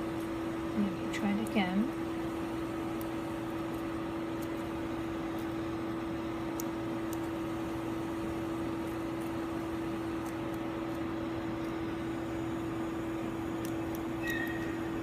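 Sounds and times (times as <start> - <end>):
laboratory equipment humming: 0.0 - 15.0.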